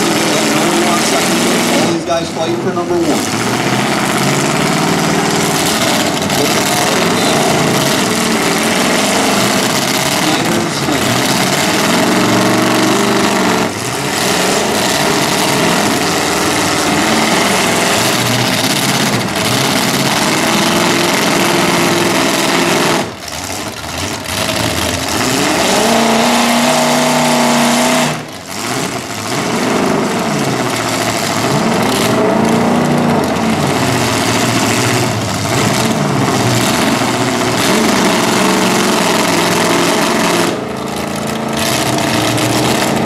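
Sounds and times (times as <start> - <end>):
car engines revving hard: 0.0 - 43.0.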